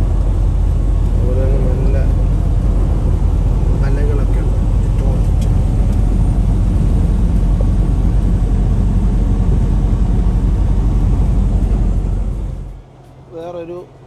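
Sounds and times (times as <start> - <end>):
road noise: 0.0 - 14.0
truck engine drone: 0.0 - 14.0.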